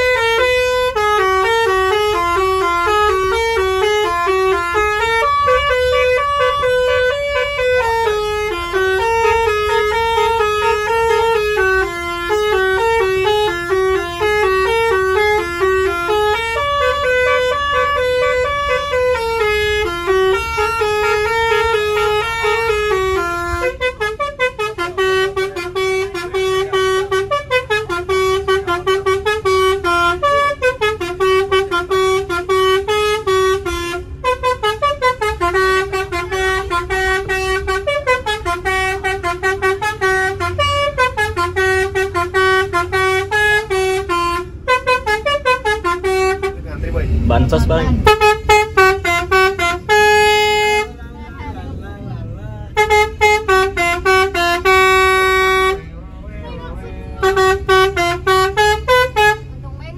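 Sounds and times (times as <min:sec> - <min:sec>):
bus musical horn melody: 0:00.0 - 0:59.9
low steady rumble: 0:00.0 - 0:59.9.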